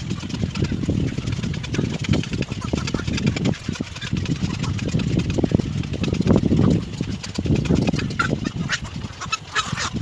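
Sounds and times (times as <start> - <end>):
low continuous rumble: 0.0 - 10.0.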